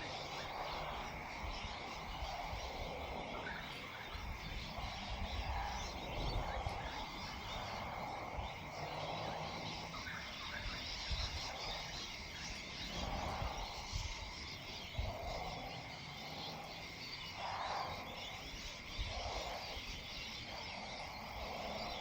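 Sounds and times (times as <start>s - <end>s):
frogs calling: 0.0s - 22.0s.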